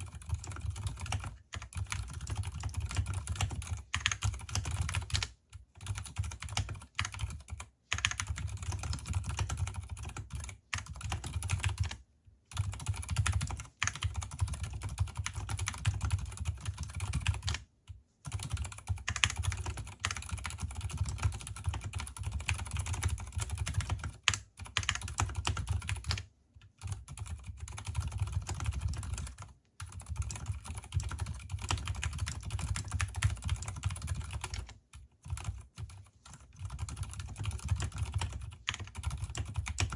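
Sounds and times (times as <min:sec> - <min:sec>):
dampened mechanical keyboard typing: 0:00.0 - 0:39.9.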